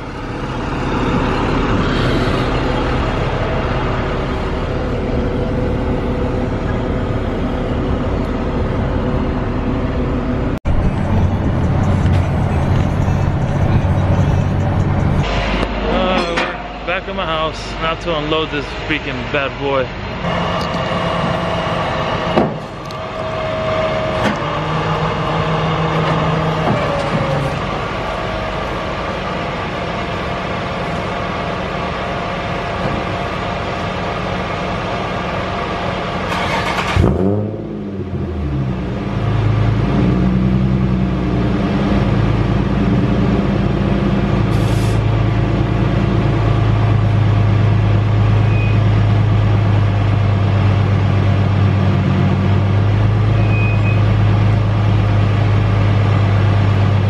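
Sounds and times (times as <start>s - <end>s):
deep engine drone: 0.0s - 57.0s
vehicle engine running: 0.0s - 57.0s.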